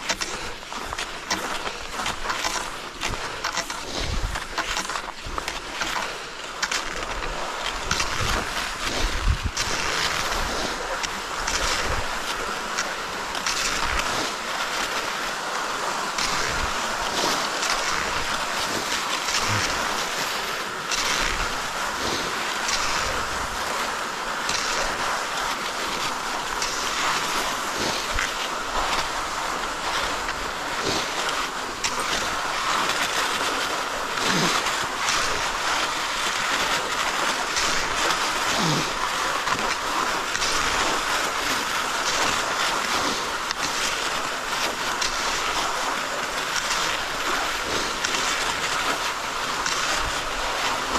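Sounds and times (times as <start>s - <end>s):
poles crunching on snow: 0.0s - 50.9s
skis swishing on snow tracks: 0.0s - 50.9s.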